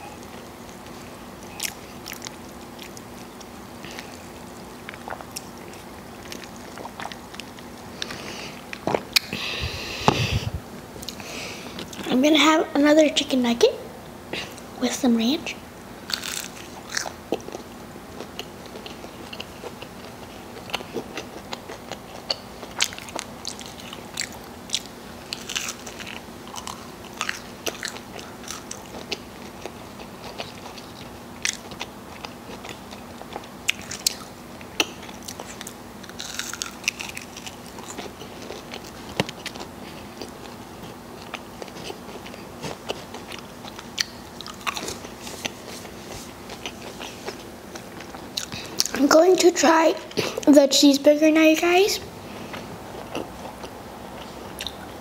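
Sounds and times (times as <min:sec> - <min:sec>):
person chewing crunchy food: 0:00.1 - 0:12.1, 0:16.0 - 0:49.0, 0:52.2 - 0:55.0.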